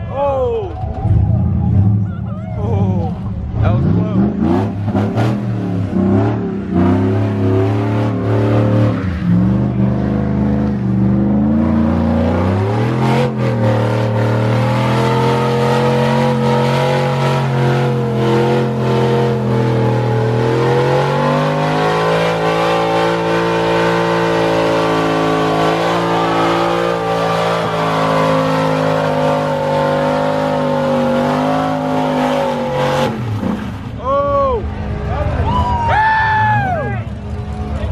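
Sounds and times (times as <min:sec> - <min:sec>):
car engine at high revs: 0:03.2 - 0:34.0.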